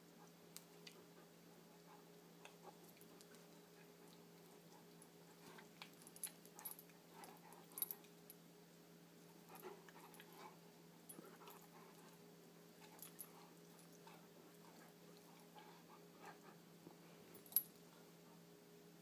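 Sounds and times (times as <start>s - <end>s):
faint steady hum: 0.0s - 19.0s
soft dog noises: 0.0s - 19.0s.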